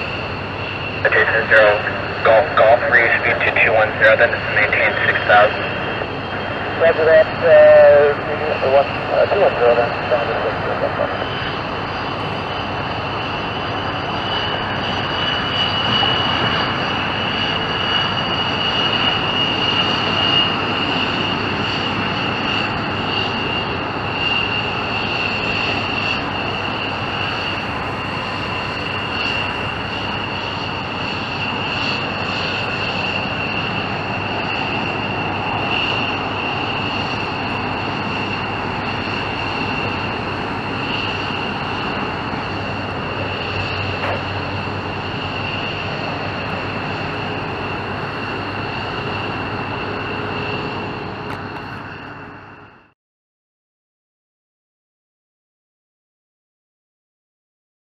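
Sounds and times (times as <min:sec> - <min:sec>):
jet engines roaring with whine: 0:00.0 - 0:53.0.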